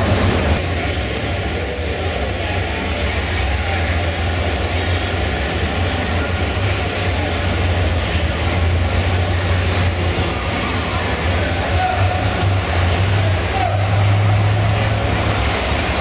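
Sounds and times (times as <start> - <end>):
car engines humming: 0.0 - 16.0
crowd murmur: 0.0 - 16.0.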